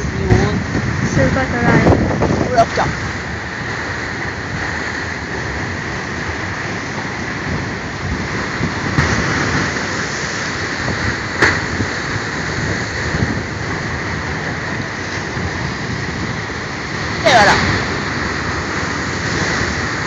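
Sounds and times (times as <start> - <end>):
waves breaking over rocks: 0.0 - 20.0.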